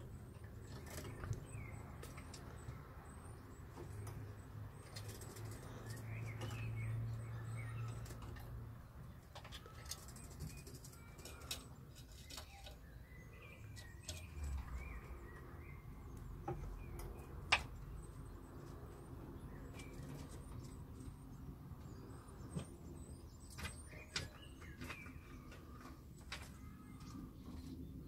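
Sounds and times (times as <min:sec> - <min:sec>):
faint high chirps and twitters: 0:00.0 - 0:28.0.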